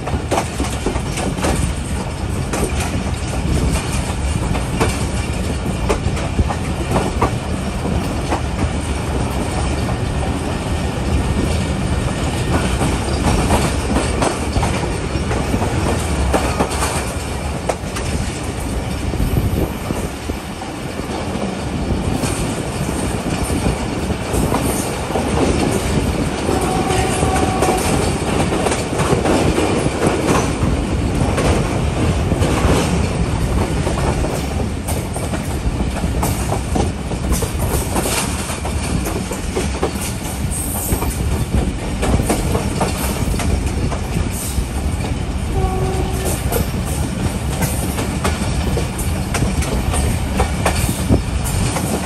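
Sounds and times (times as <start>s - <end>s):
clatter over rail joints: 0.0s - 20.4s, 21.0s - 52.0s
train wheels rumbling on rails: 0.0s - 52.0s.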